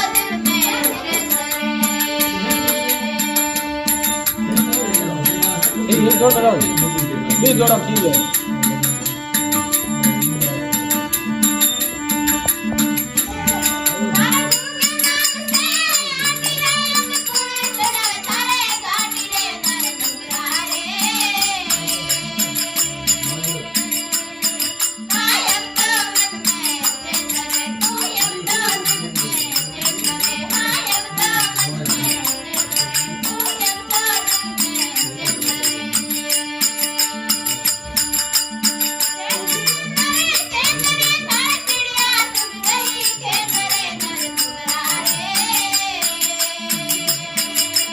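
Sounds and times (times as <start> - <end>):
person singing: 0.0 - 10.8, 13.1 - 47.9
jingling percussion: 0.0 - 47.9.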